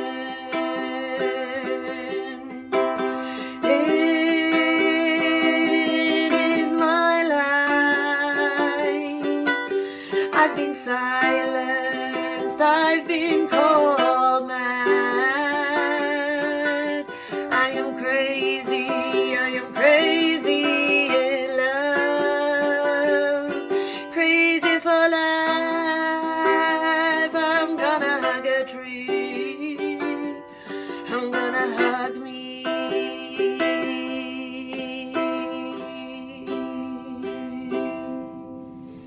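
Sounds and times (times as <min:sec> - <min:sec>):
ukulele chords: 0:00.0 - 0:39.0.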